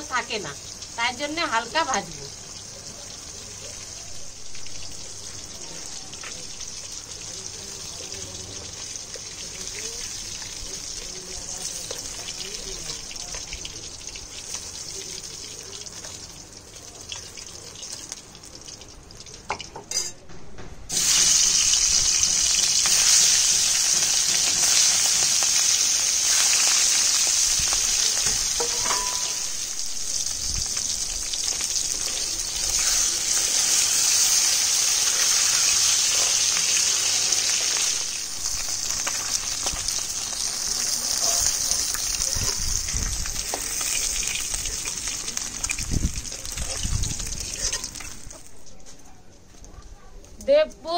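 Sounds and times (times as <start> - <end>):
fish sizzling in hot oil: 0.0 - 19.7, 20.9 - 48.6.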